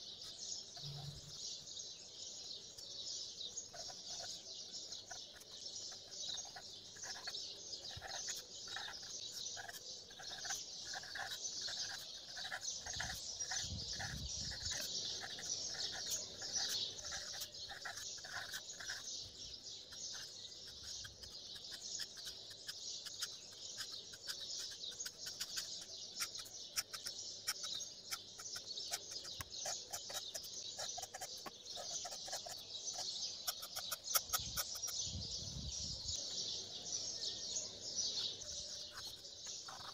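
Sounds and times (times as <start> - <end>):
birds chirping: 0.0 - 39.9
marker scratching on paper: 3.6 - 36.3, 38.1 - 39.9.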